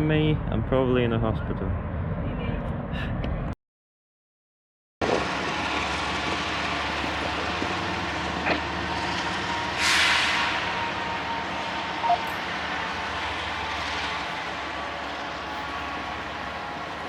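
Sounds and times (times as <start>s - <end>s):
vehicle rumble: 0.0s - 3.6s, 5.0s - 17.0s.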